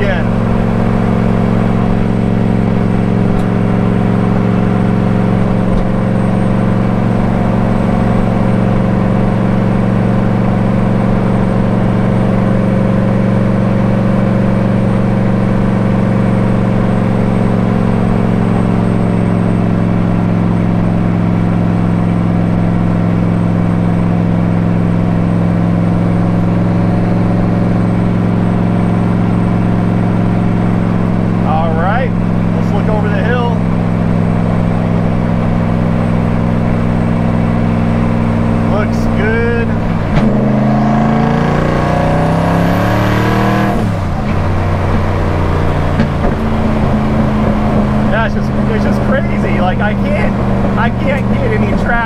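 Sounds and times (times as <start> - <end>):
car engine droning: 0.0 - 52.0
tyre and road noise: 0.0 - 52.0.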